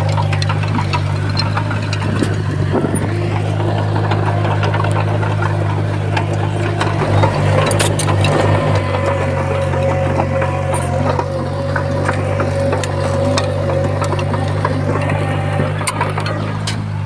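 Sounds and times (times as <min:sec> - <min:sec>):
bulldozer diesel engine running: 0:00.0 - 0:17.0
metal clicks and clanks: 0:00.0 - 0:17.0.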